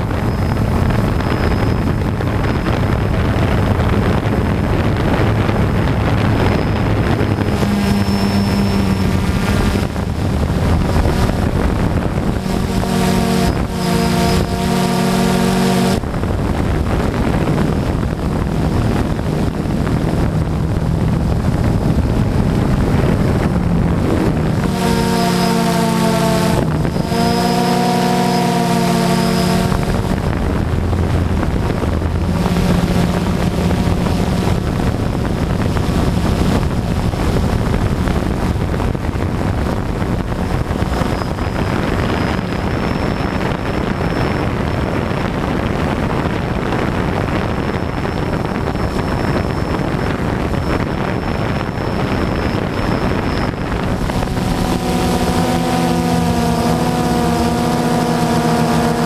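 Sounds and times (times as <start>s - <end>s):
drone propellers whirring: 0.0s - 59.0s
wind rushing over microphone: 0.0s - 59.0s.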